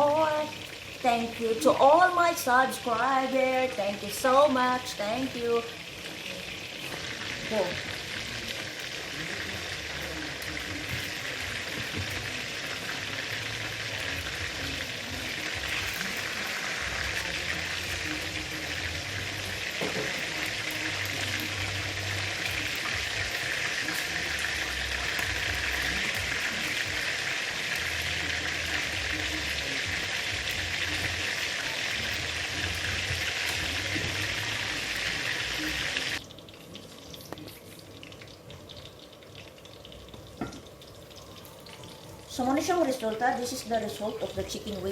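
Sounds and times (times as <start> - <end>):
chicken frying in hot oil: 0.0 - 44.9.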